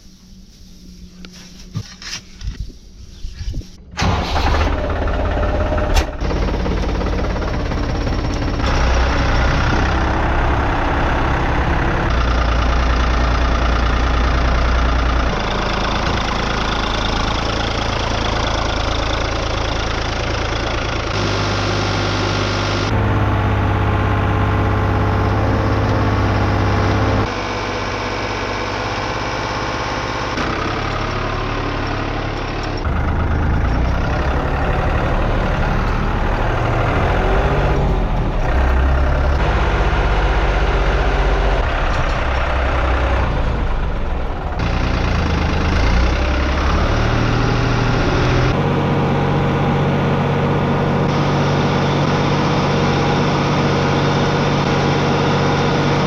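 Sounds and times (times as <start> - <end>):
vehicle engine running: 3.9 - 56.0.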